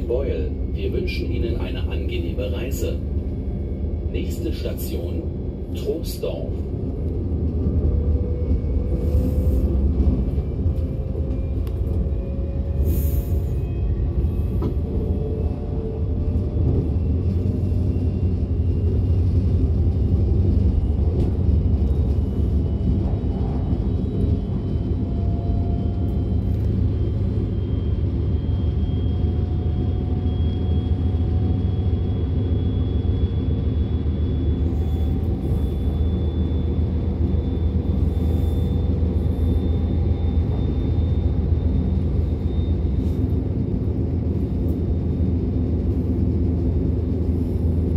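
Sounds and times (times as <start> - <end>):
train interior rumble: 0.0 - 47.9.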